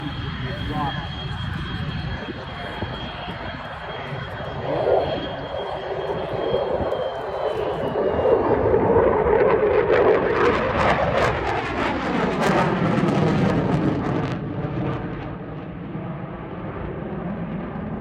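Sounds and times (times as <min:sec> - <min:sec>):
jet flyby crackling roar: 0:00.0 - 0:18.0.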